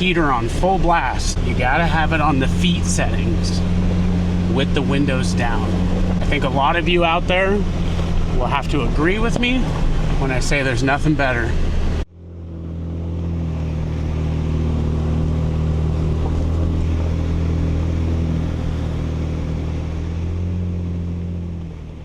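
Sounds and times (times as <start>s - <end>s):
road noise: 0.0s - 22.0s
truck engine running: 0.0s - 22.0s.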